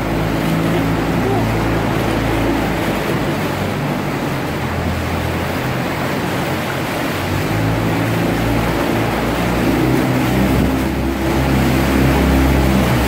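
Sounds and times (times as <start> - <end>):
boat engine humming: 0.0 - 13.0
water lapping on hull: 0.0 - 13.0.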